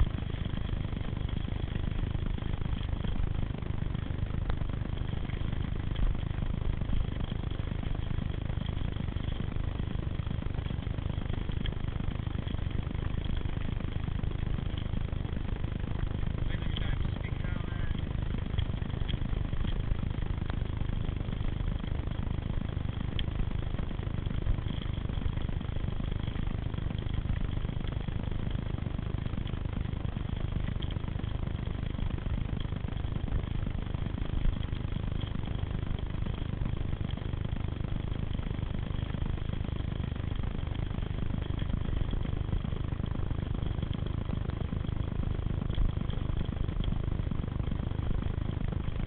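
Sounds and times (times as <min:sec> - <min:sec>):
bicycles rolling on dirt trail: 0:00.0 - 0:49.0.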